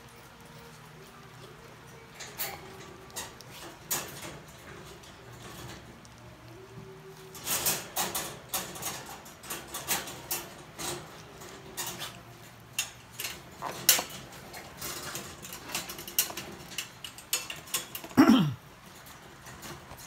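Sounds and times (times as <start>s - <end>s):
puppy claws clicking on plastic floor: 0.0s - 18.2s, 18.8s - 20.0s.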